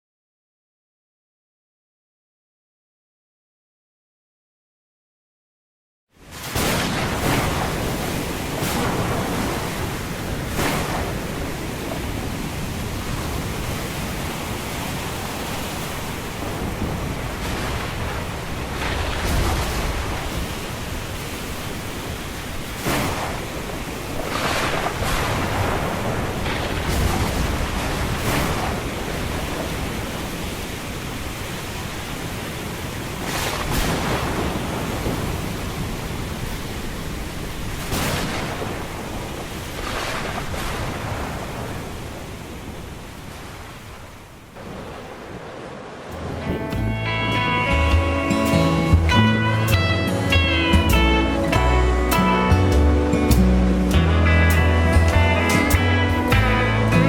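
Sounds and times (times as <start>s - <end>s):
surf breaking on beach: 6.2s - 52.1s.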